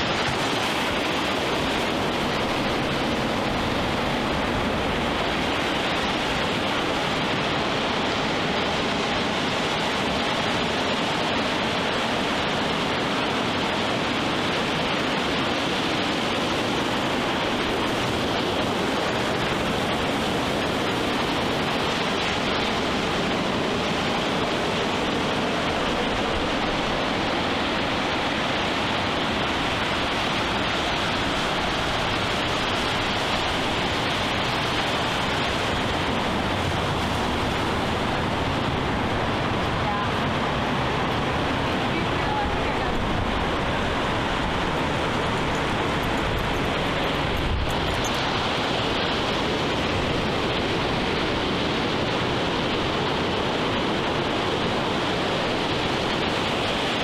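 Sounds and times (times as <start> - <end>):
ocean surf washing onto beach: 0.0 - 57.0.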